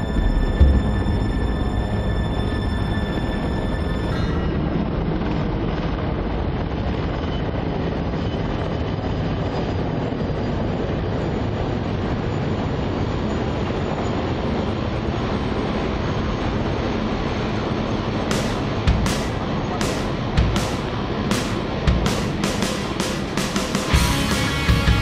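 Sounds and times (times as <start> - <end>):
helicopters flying past: 0.0 - 25.0.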